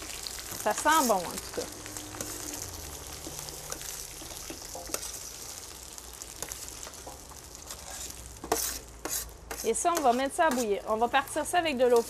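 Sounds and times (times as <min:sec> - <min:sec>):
meat and vegetables sizzling in fat: 0:00.0 - 0:12.0.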